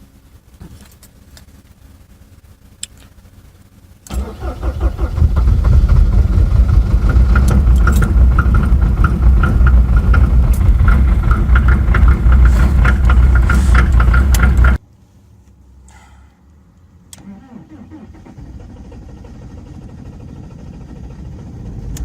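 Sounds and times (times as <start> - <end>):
diesel engine running rough: 0.0 - 14.8, 17.4 - 22.0.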